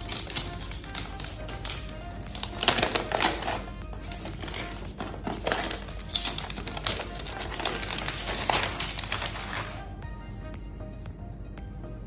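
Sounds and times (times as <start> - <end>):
paper wrap rustling: 0.0 - 9.9
background music: 0.0 - 12.0.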